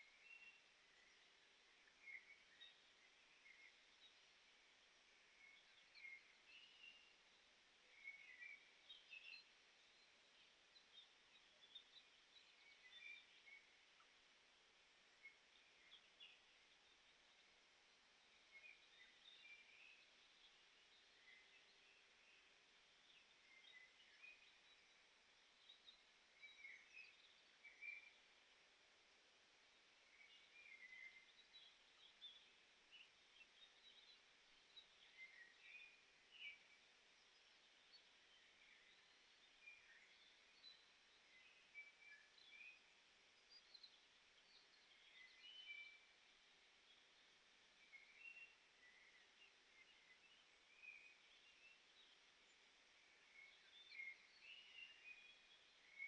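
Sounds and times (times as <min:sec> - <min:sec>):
background hiss: 0:00.0 - 0:56.0
distant birdsong chirps: 0:00.0 - 0:56.0.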